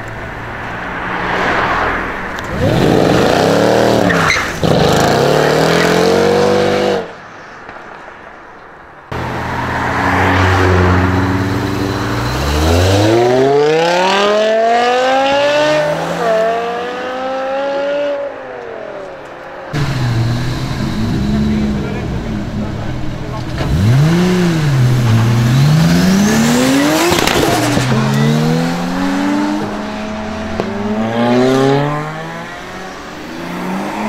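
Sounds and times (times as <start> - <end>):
car revving and pulling away: 0.0 - 7.2, 9.1 - 34.0
car engine accelerating hard: 1.4 - 7.1, 9.2 - 18.2, 19.7 - 34.0.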